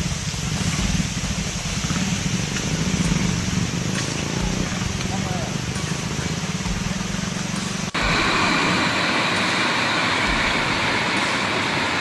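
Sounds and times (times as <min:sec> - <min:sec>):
floodwater rushing: 0:00.0 - 0:12.0
low hum: 0:00.0 - 0:12.0.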